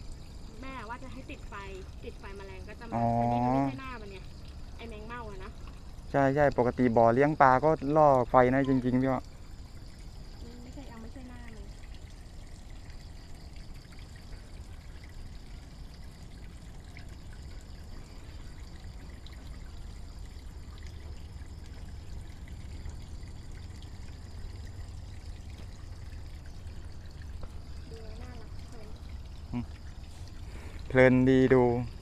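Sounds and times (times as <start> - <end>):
water trickling: 0.0 - 32.0.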